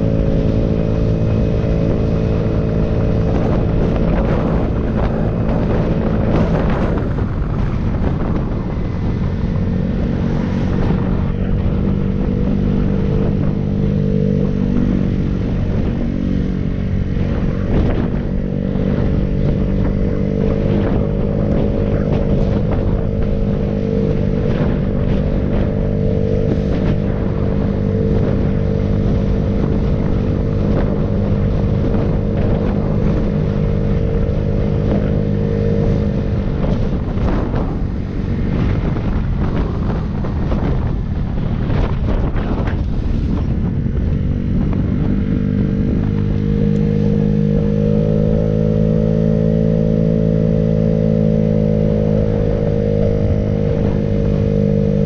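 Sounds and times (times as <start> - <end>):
road and wind noise: 0.0 - 55.0
vehicle engine running: 0.0 - 55.0.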